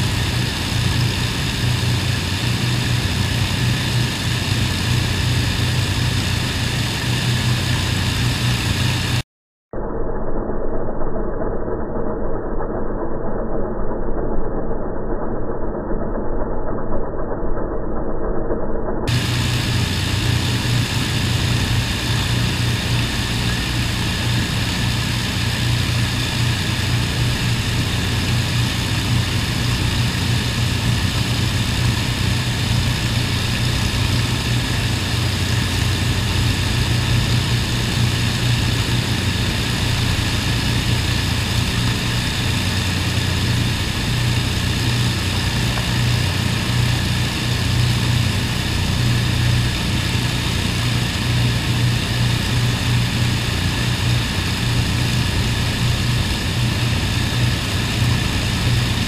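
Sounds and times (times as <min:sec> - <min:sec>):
piston aircraft engines droning: 0:00.0 - 0:09.2, 0:19.1 - 0:59.0.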